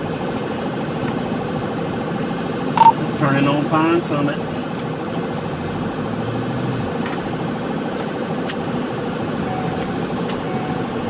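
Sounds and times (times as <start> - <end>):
car engine and road noise inside: 0.0 - 11.0.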